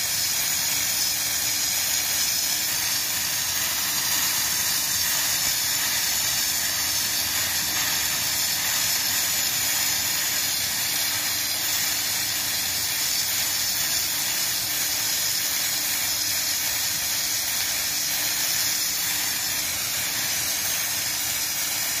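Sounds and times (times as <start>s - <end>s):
sandblasting nozzle hissing: 0.0s - 22.0s.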